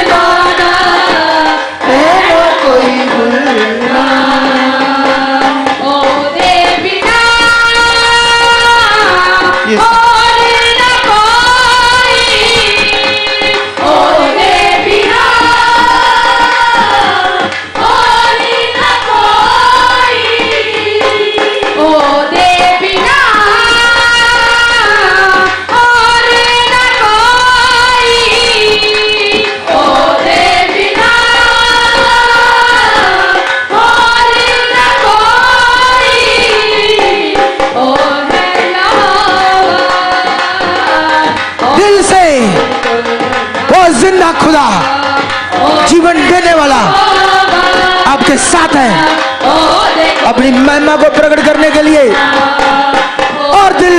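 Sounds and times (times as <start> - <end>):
woman singing worship song: 0.0 - 50.5
musical accompaniment: 0.0 - 53.9.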